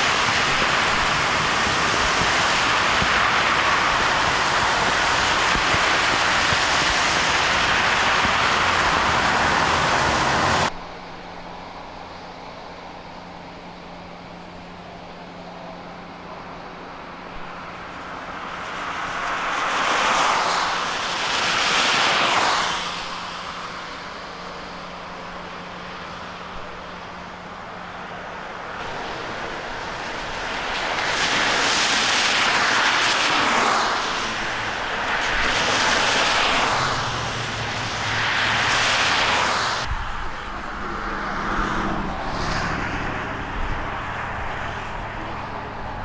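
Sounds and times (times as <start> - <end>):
cars passing through water: 0.0 - 10.7, 16.2 - 46.0.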